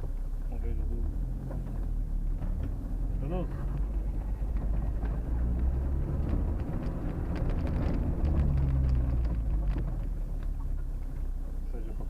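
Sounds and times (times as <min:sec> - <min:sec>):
car engine running at low revs: 0:00.0 - 0:12.0
light clicks and rattles: 0:00.7 - 0:12.0.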